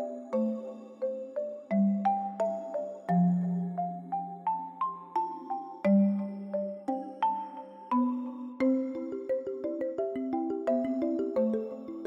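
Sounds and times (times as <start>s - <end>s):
gentle melody of struck ringing notes: 0.0s - 12.0s.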